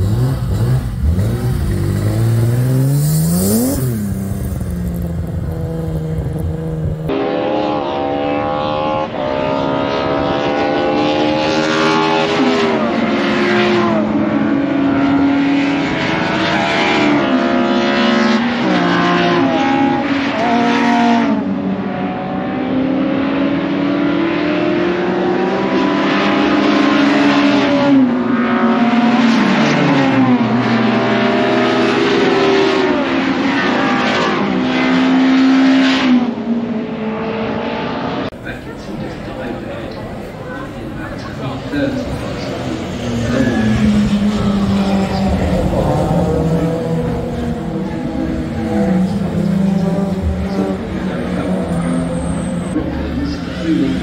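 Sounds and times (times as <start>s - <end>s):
racing car engines revving: 0.0s - 54.0s.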